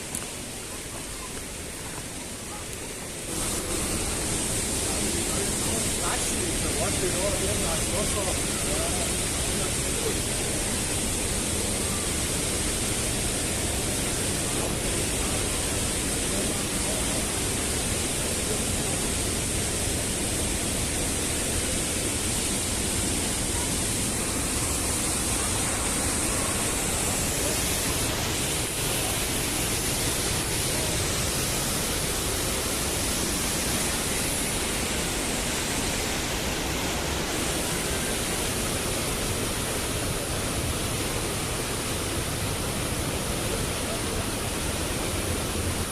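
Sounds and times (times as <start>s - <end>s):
mountain stream rushing over rocks: 0.0s - 45.9s.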